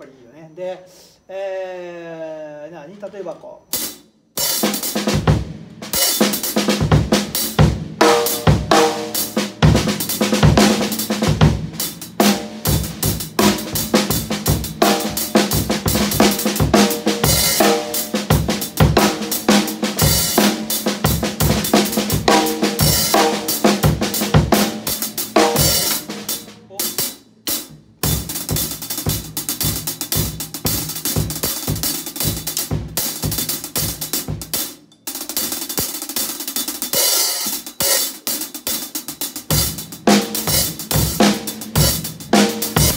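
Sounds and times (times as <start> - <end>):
hi-hats played steadily: 3.8 - 42.9.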